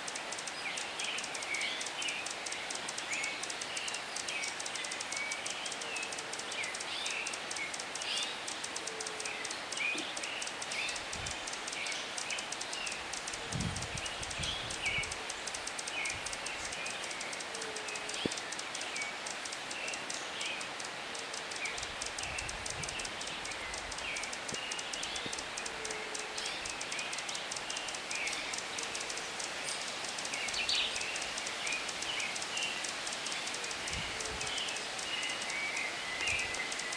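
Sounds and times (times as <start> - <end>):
steady high buzz: 0.0 - 36.9
bird chirps: 0.6 - 20.9, 21.6 - 36.9.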